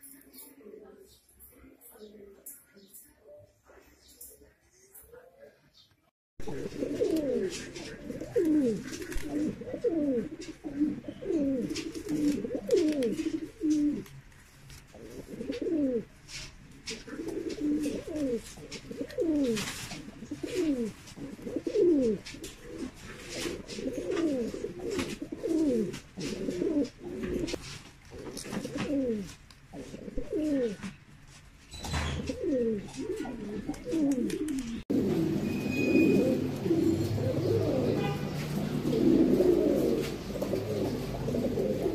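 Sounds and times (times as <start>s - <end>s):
pigeons cooing: 6.4s - 14.3s, 14.9s - 31.0s, 31.8s - 41.9s.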